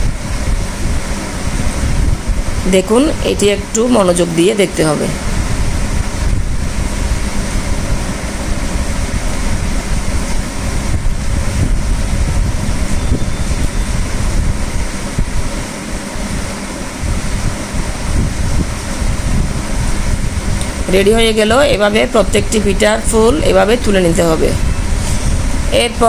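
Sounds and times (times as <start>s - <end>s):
faint steady hum: 0.0s - 26.0s
steady rushing noise: 0.0s - 26.0s.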